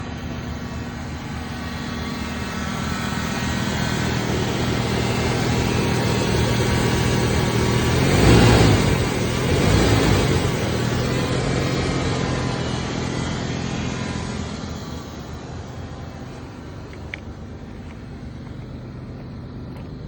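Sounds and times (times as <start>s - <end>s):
truck engine running and revving: 0.0s - 20.0s.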